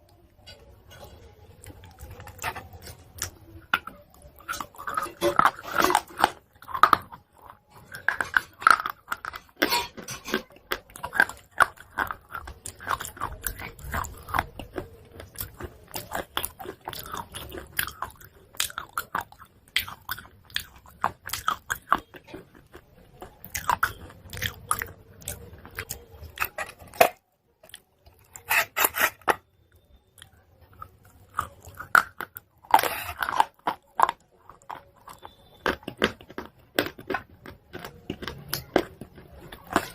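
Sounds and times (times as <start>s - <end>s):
chalk being crunched and chewed: 0.5s - 39.9s.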